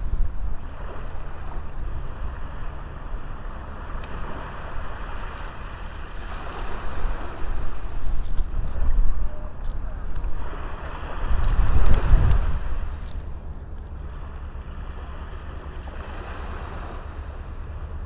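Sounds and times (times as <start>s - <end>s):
ocean waves breaking on beach: 0.0s - 18.0s
wind buffeting microphone: 0.0s - 18.0s.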